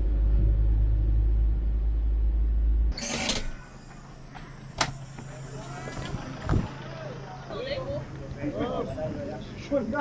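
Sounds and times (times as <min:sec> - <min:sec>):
vehicle cabin rumble: 0:00.0 - 0:09.4.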